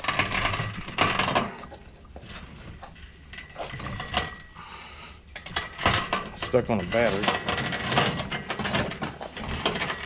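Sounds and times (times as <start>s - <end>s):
rattles and knocks: 0.0s - 4.6s, 5.3s - 10.0s.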